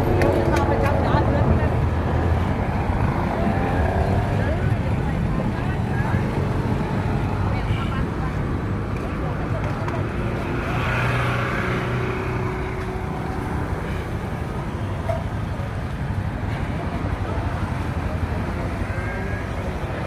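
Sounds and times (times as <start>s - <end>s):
low street traffic rumble: 0.0s - 20.0s.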